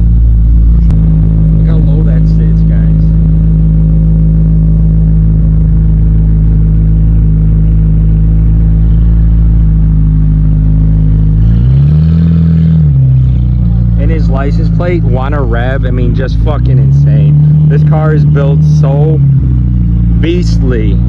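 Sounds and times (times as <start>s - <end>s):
car engine idling loudly: 0.0s - 21.0s
engine revving: 0.0s - 21.0s.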